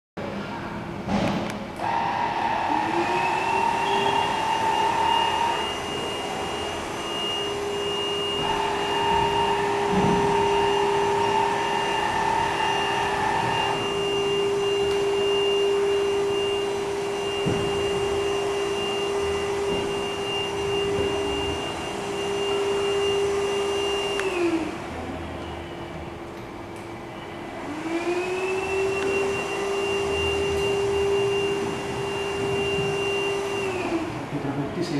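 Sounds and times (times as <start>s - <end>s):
vacuum cleaner motor whine: 1.8s - 34.9s.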